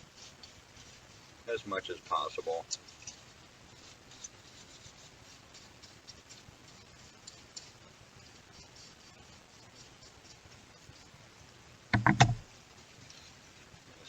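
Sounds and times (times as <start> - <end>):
paintbrush strokes: 0.0 - 14.0.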